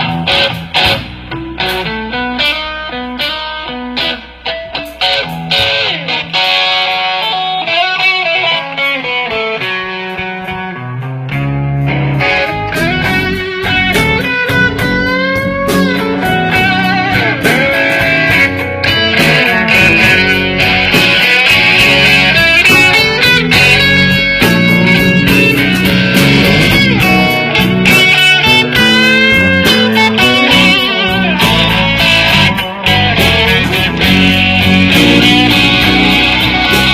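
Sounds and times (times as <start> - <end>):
blues band playing: 0.0 - 36.9
electric guitar sliding notes: 0.0 - 36.9.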